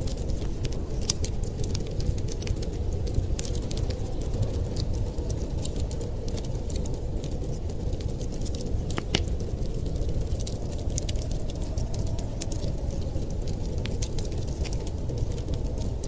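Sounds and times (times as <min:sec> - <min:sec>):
fire snaps: 0:00.0 - 0:16.0
wood fire crackling: 0:00.0 - 0:16.0.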